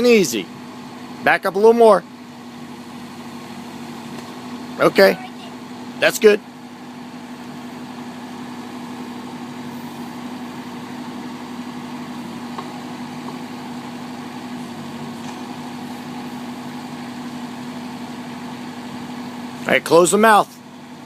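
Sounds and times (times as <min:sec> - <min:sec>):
excavator engine humming: 0:00.0 - 0:21.0.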